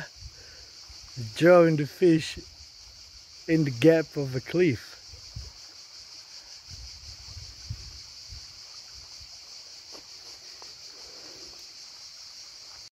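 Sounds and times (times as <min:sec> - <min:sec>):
insects chirping: 0:00.0 - 0:12.9.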